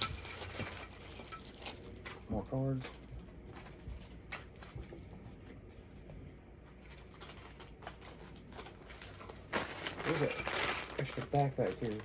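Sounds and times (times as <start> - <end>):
handling plastic and cardboard: 0.0 - 12.0.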